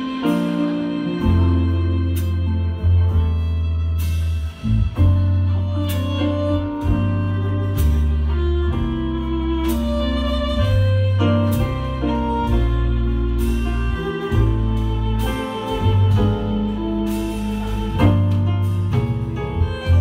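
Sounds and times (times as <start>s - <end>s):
electric bass low notes: 0.0s - 20.0s.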